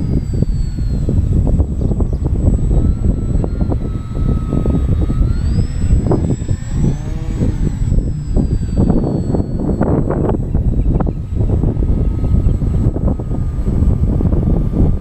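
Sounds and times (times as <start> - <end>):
model plane motor whine: 0.0 - 15.0
wind buffeting microphone: 0.0 - 15.0.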